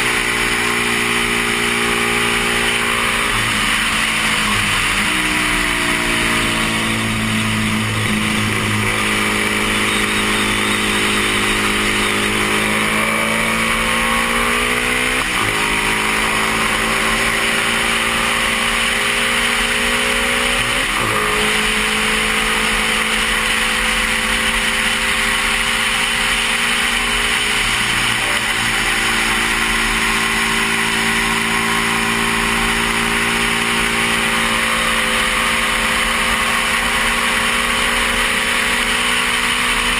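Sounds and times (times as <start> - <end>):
motorcycle engine at full throttle: 0.0 - 39.9.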